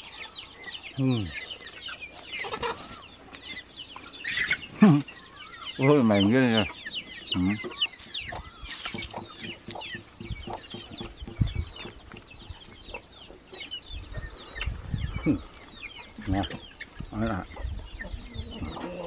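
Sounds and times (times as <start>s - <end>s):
chickens clucking and peeping: 0.0s - 19.0s.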